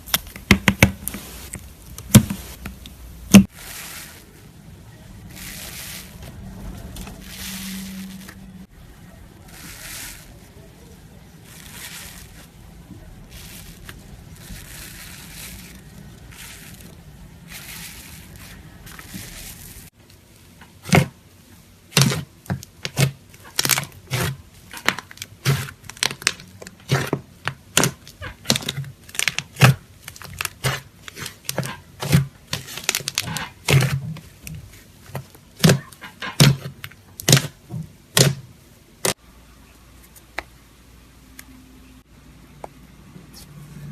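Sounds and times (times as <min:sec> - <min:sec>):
slime squishing: 0:00.0 - 0:20.0, 0:21.9 - 0:38.4.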